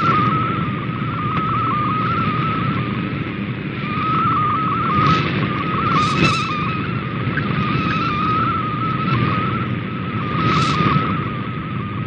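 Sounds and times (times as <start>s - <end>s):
bursts of noise: 0.0s - 12.0s
shortwave radio noise and hiss: 0.0s - 12.0s
warbling data tone: 0.0s - 12.0s.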